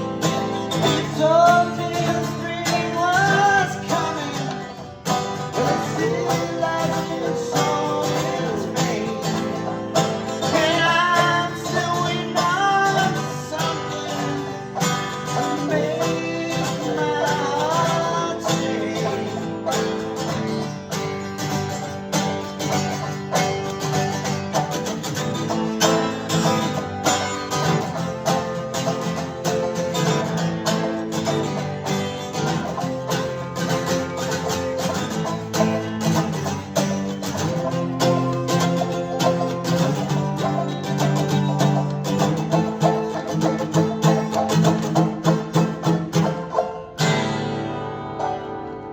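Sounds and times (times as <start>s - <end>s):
acoustic bluegrass music: 0.0s - 48.9s.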